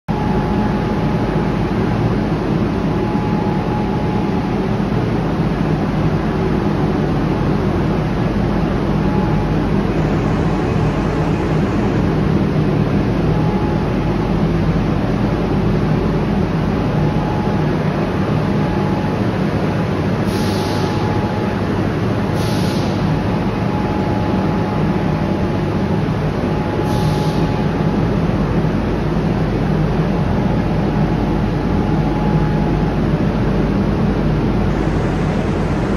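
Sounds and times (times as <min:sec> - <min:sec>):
furnace roaring: 0:00.1 - 0:35.9.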